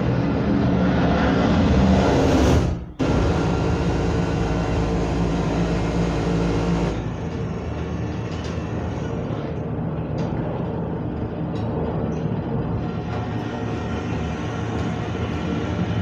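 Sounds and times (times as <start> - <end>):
propeller engines droning: 0.0 - 16.0.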